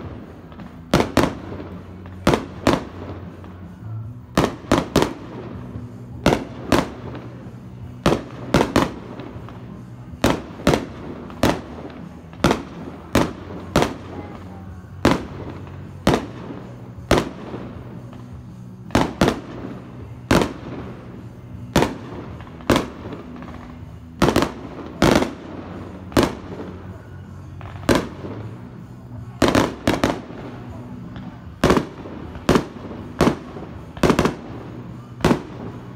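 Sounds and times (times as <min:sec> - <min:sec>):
fireworks bangs: 0:00.0 - 0:35.9.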